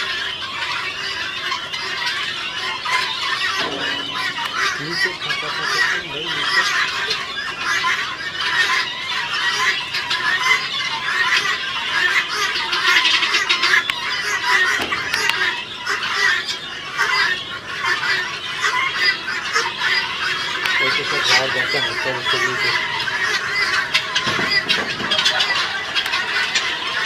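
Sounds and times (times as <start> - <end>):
guineafowl squawking: 0.0 - 27.0.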